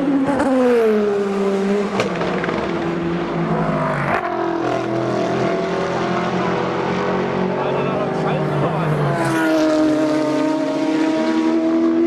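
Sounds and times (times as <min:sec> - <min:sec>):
race cars passing at speed: 0:00.0 - 0:12.0.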